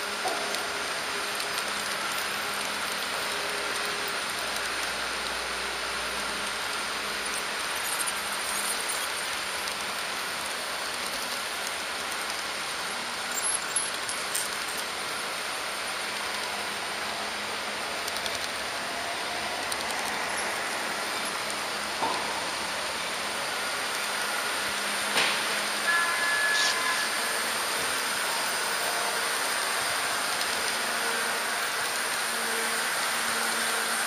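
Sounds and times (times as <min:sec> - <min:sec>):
model train running on track: 0:00.0 - 0:34.0.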